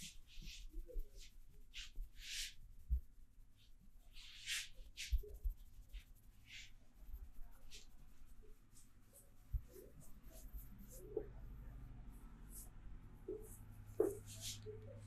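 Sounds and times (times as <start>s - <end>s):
hands rubbing hair and skin: 0.0s - 15.0s.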